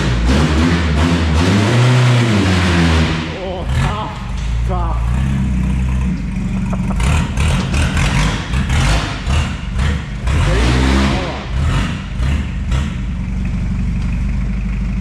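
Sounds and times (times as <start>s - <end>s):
car engine running: 0.0s - 15.0s
short engine bursts: 0.0s - 15.0s.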